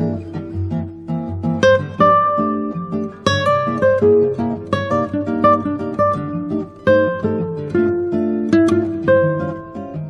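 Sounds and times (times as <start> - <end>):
acoustic guitar playing: 0.0 - 10.0.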